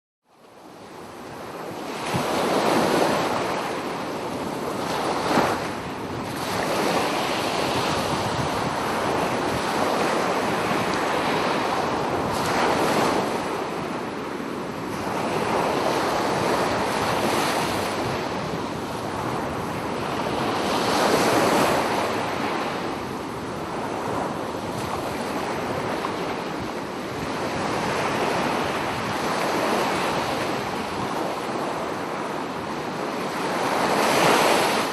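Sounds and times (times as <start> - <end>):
ocean waves breaking on beach: 0.3 - 34.9.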